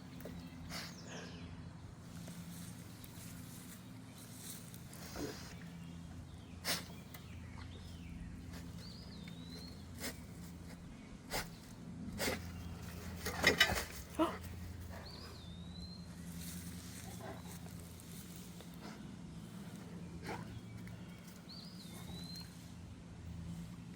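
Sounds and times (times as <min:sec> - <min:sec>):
dog sniffing and snuffling: 0:00.0 - 0:01.4, 0:02.0 - 0:23.9.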